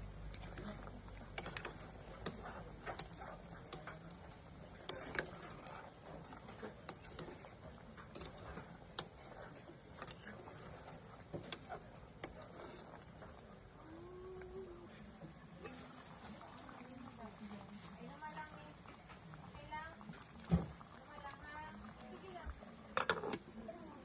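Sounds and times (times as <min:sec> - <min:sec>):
faint steady background noise: 0:00.0 - 0:24.0.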